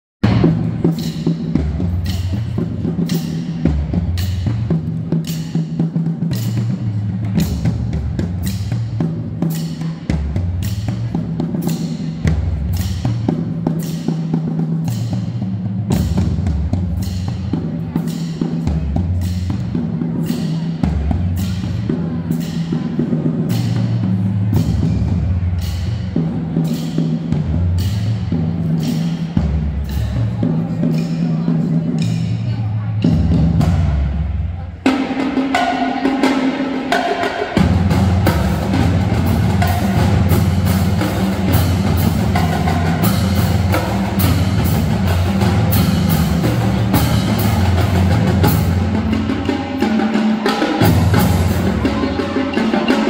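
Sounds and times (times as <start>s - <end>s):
snare and tenor drums: 0.2s - 53.0s.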